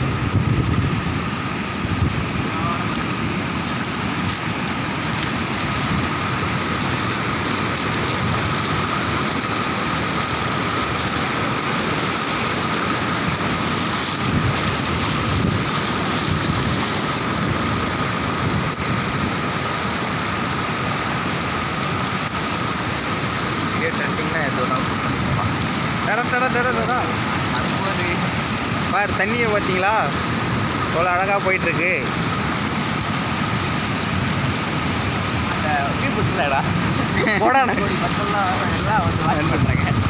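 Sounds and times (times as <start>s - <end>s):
floodwater rushing: 0.0s - 40.0s.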